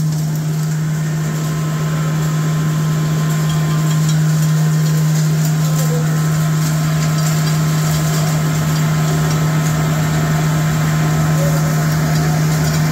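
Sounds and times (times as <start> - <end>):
grinding machinery drone: 0.0 - 12.9.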